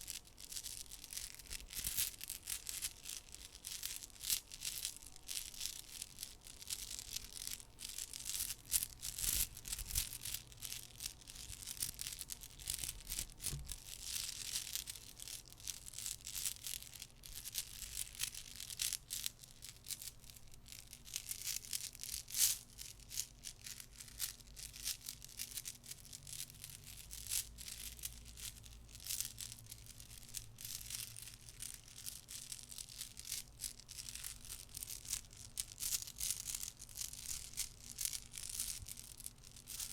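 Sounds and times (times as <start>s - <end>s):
glass beads clicking and rattling: 0.1s - 39.9s.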